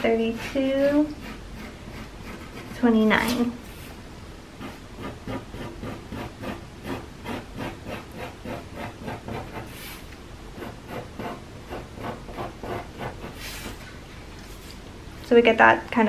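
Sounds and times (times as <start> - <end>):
pencil scratching on paper: 0.0 - 4.0, 4.6 - 13.9.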